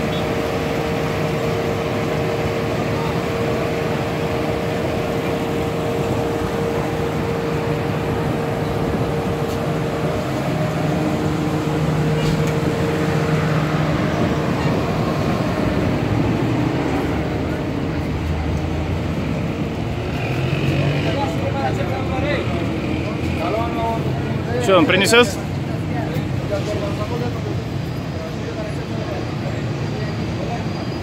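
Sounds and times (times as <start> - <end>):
people's voices: 0.0 - 31.0
vehicle engines humming: 0.0 - 31.0.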